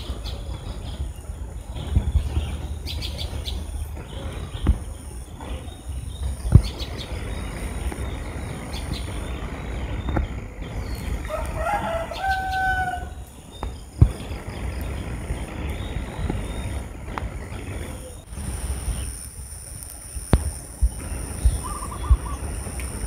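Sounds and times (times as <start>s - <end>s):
drawn-out bird call: 0.0s - 19.2s, 21.0s - 23.0s
steady low rumble: 0.0s - 23.0s.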